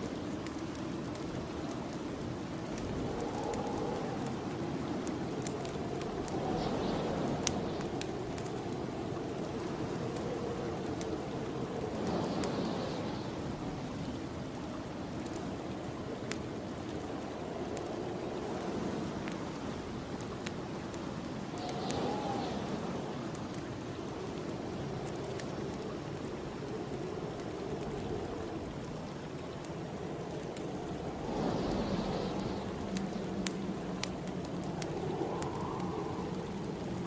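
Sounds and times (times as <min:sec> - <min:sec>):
snowstorm wind blowing: 0:00.0 - 0:37.0
wood fire crackling: 0:00.0 - 0:37.0.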